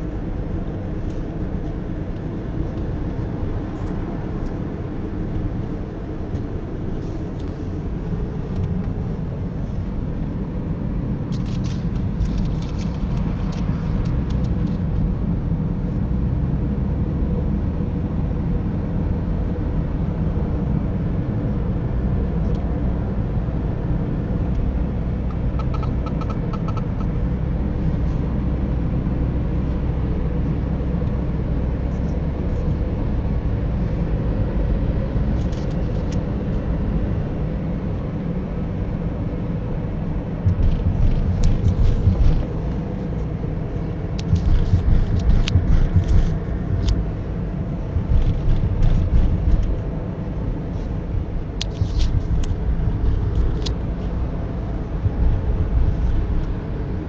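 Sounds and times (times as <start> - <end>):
engine and tyre rumble in car: 0.0 - 57.0.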